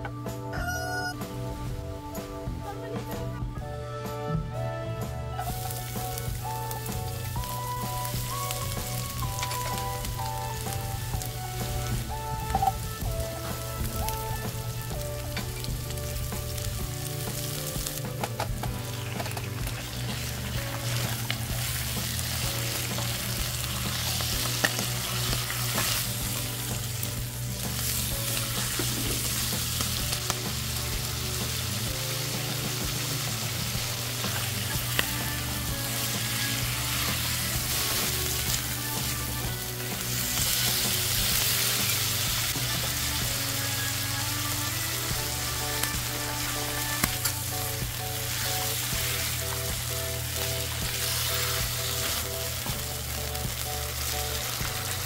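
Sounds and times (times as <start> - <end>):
soft background music: 0.0 - 55.0
food sizzling in hot oil: 5.4 - 55.0.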